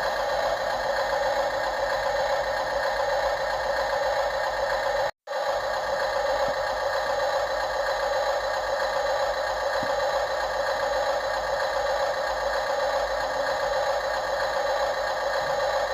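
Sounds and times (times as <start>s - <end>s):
model machine mechanical whir: 0.0s - 15.9s.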